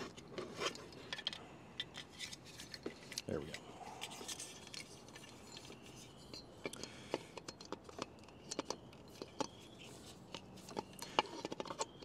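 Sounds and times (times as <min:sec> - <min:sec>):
plastic parts clicking and tapping: 0:00.0 - 0:12.0.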